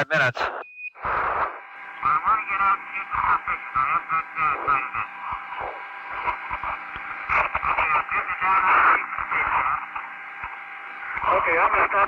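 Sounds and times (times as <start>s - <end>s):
garbled radio voices: 0.0s - 12.0s
radio static: 0.0s - 12.0s
steady hum: 0.0s - 12.0s.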